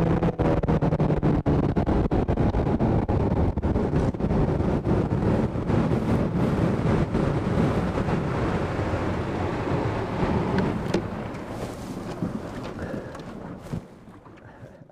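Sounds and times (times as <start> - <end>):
motorboat rumbling: 0.0 - 14.9
wind buffeting microphone: 0.0 - 14.9.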